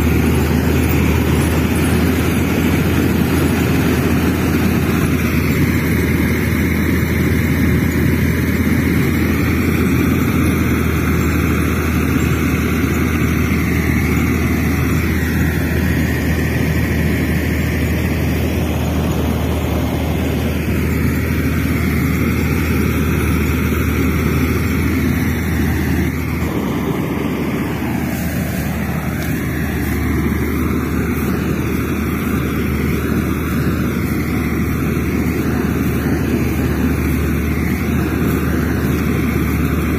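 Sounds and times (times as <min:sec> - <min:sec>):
toy excavator motor humming: 0:00.0 - 0:39.9.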